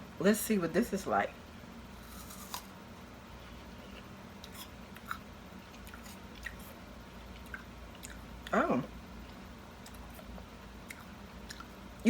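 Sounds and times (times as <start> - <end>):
faint steady hum: 0.0 - 12.0
person chewing apple crunches: 1.9 - 12.0.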